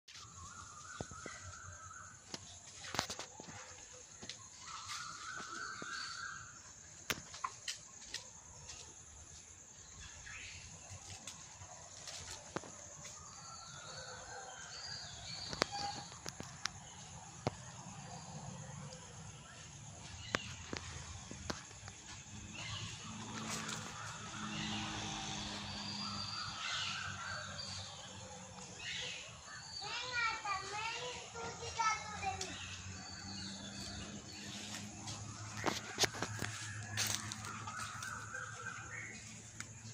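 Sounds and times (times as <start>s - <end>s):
outdoor ambience: 0.0s - 39.9s
birds calling: 0.1s - 39.9s.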